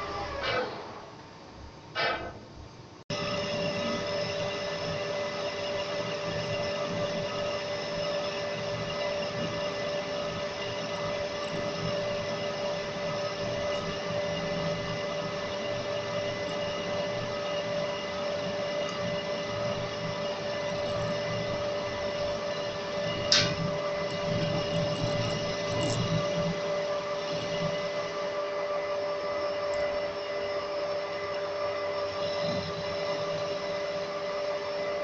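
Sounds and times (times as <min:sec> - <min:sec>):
metal lathe droning: 0:03.1 - 0:35.0.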